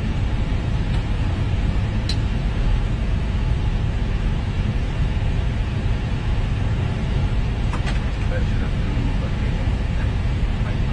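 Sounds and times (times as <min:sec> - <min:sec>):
steady cockpit noise: 0:00.0 - 0:10.9.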